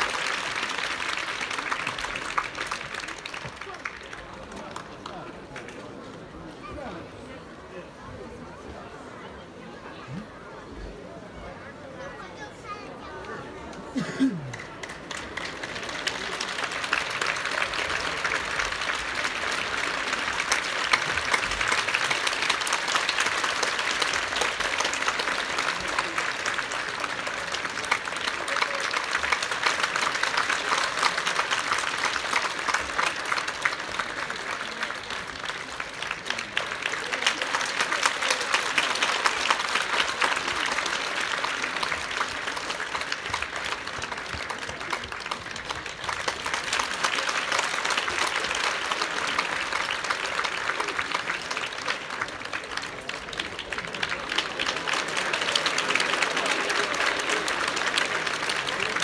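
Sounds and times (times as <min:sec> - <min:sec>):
audience applauding: 0:00.0 - 0:06.4, 0:13.6 - 0:59.0.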